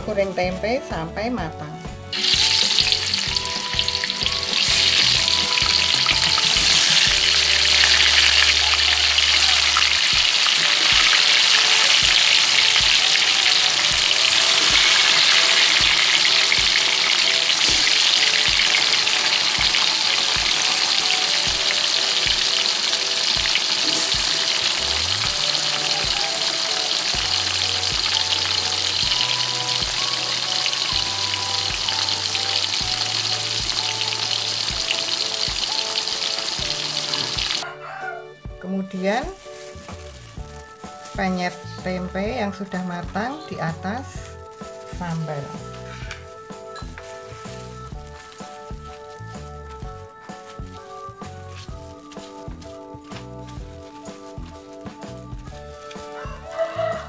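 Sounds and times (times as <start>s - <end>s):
background music with beat: 0.0s - 57.0s
food deep-frying in oil: 2.1s - 38.0s, 39.2s - 57.0s.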